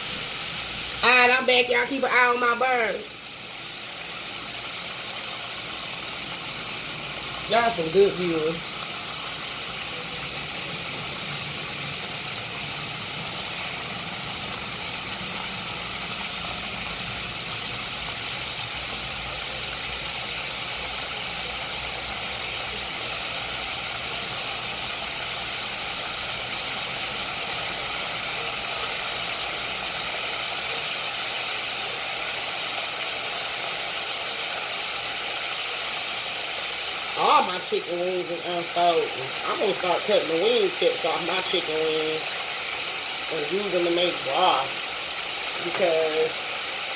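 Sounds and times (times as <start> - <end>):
chicken wings sizzling in oil: 0.0 - 46.9.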